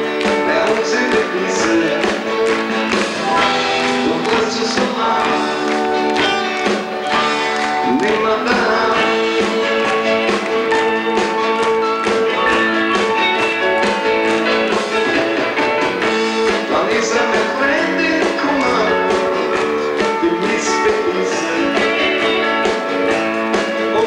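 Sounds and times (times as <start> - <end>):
acoustic guitar: 0.0 - 24.0
live rock band: 0.0 - 24.0
steady drum beat: 0.0 - 24.0.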